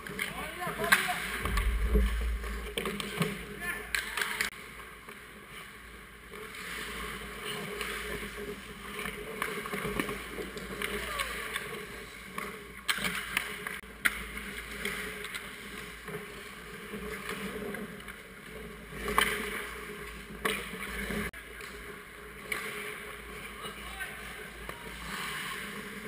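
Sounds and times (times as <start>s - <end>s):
hockey sticks and puck clacking: 0.0s - 1.6s, 2.7s - 5.2s, 6.3s - 26.0s
skates scraping on ice: 2.4s - 26.0s.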